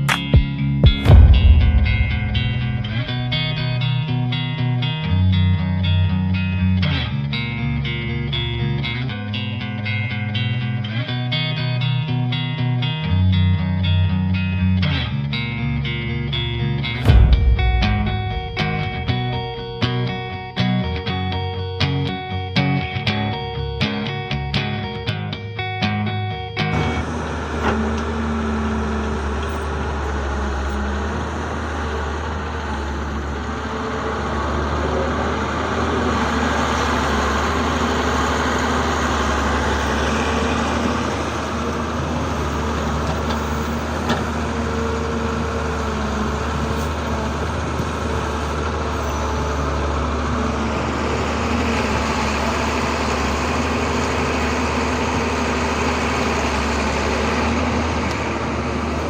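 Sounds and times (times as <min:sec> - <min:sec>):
heavy diesel engines droning: 0:00.0 - 0:59.0.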